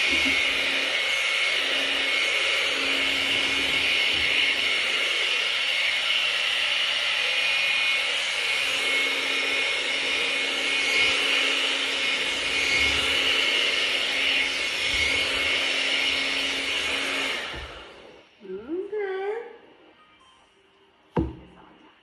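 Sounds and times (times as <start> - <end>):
hair dryer blowing: 0.0 - 18.6.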